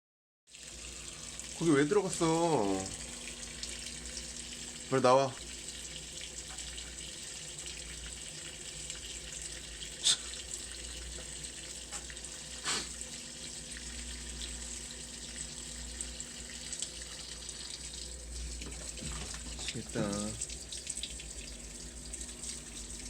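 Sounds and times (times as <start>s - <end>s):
water running: 0.5s - 23.0s.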